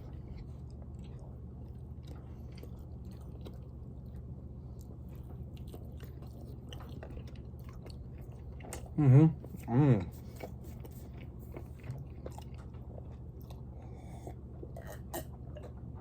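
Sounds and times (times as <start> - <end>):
person chewing toast: 0.0 - 15.8
steady low hum: 0.0 - 16.0.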